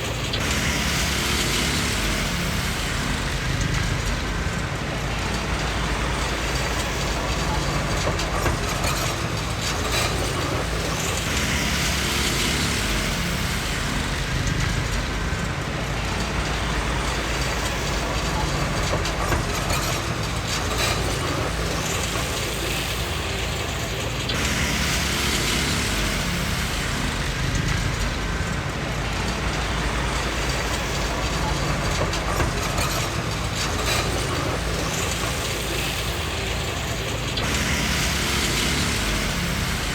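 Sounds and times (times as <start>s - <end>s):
bulldozer diesel engine: 0.0s - 39.9s
harsh hissing grinding noise: 0.0s - 39.9s
steel tracks clattering: 0.0s - 39.9s.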